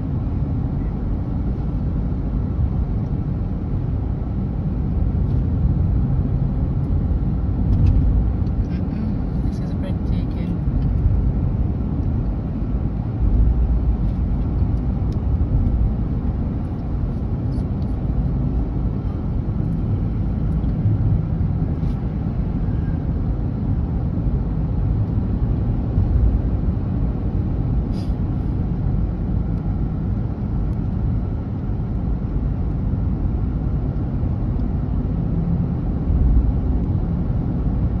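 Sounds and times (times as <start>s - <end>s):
road and engine rumble in car: 0.0s - 38.0s.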